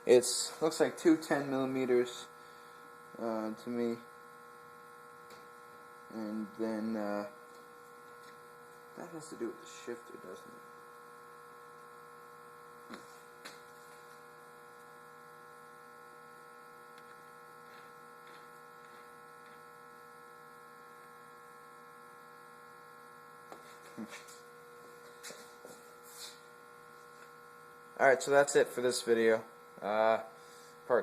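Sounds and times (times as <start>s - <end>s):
faint electrical hum: 0.0s - 31.0s.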